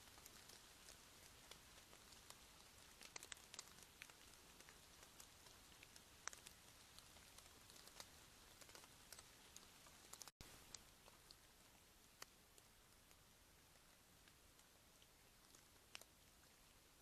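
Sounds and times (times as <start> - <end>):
faint steady hiss: 0.0 - 17.0
faint ticks: 0.0 - 17.0.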